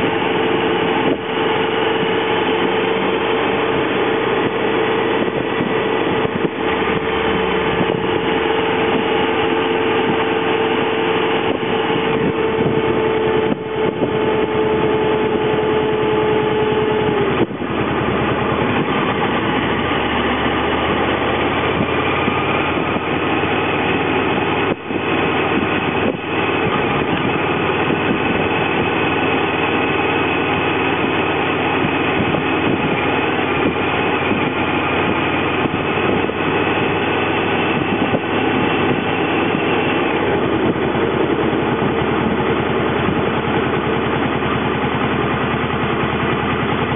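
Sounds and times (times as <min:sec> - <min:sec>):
motorcycle engine cruising: 0:00.0 - 0:46.9
wind rush on microphone: 0:00.0 - 0:46.9.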